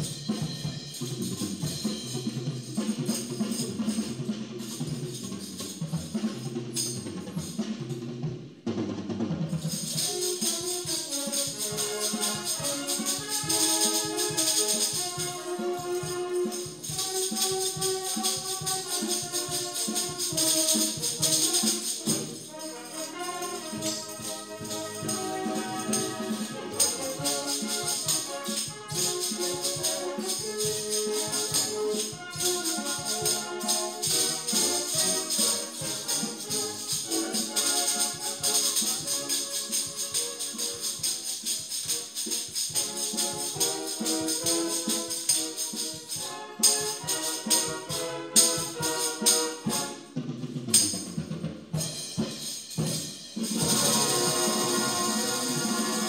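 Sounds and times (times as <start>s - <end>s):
tambourines jingling: 0.0s - 7.6s, 9.5s - 50.0s, 50.7s - 56.0s
recorded band music: 0.0s - 56.0s.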